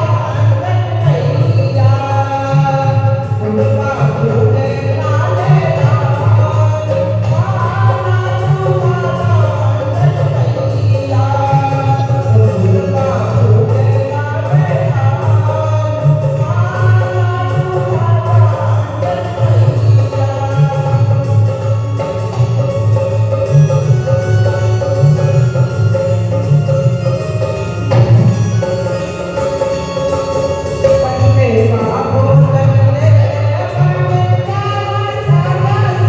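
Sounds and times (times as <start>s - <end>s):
person singing devotional song: 0.0s - 24.3s, 27.7s - 36.0s
low musical accompaniment: 0.0s - 36.0s.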